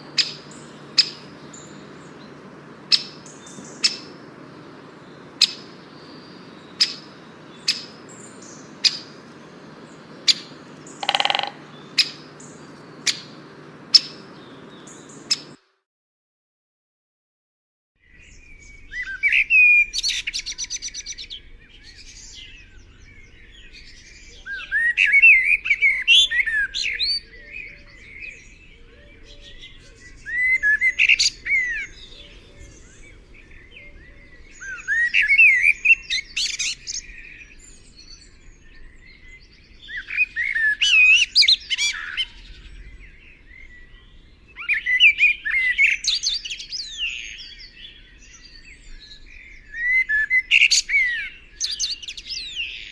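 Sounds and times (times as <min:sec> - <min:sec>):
songbird chirping and warbling: 0:00.0 - 0:15.6, 0:18.0 - 0:52.9.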